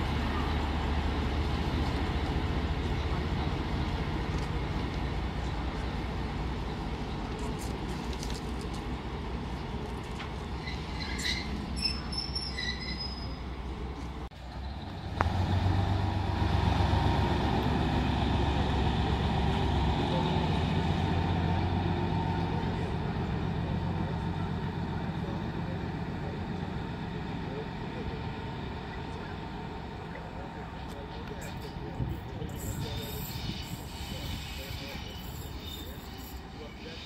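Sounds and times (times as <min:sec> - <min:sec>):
diesel locomotive engine droning: 0:00.0 - 0:37.0.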